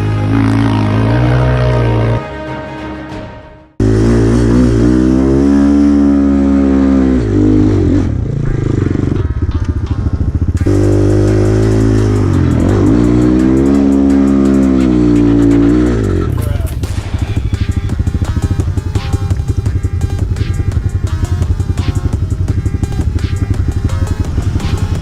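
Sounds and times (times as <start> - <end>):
dirt bike engine revving: 0.0 - 2.2, 3.8 - 25.0.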